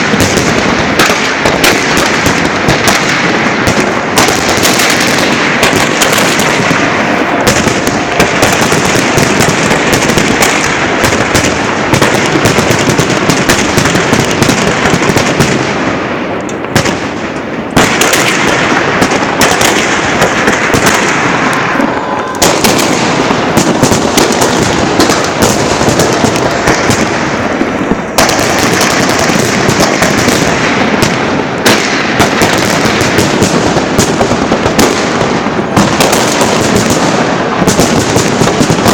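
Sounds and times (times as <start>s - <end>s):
firework launches and bursting shells: 0.0s - 38.9s.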